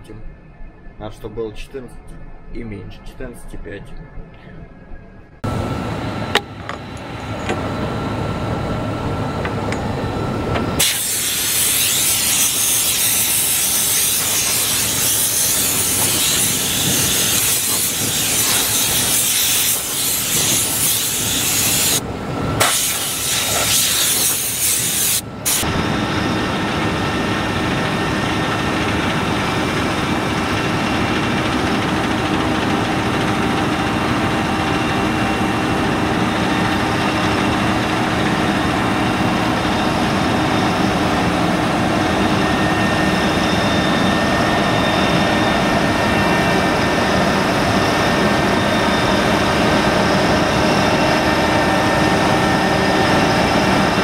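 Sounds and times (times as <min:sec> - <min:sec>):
combine harvester running: 0:05.3 - 0:54.0.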